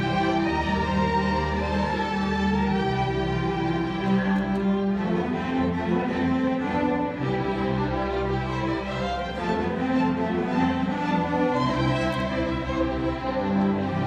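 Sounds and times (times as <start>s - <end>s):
string orchestra playing chords: 0.0s - 14.0s.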